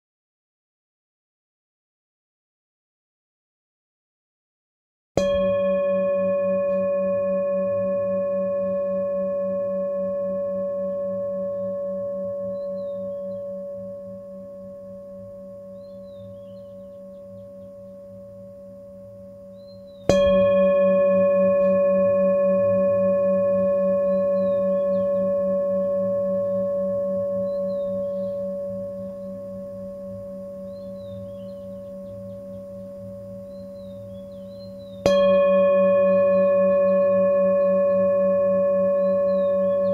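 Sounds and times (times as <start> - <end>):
singing bowl ringing: 5.2 - 39.9.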